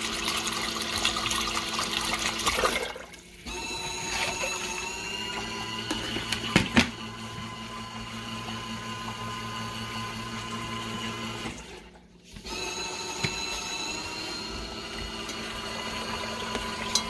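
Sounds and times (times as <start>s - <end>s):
washing machine motor whine: 0.0s - 17.0s.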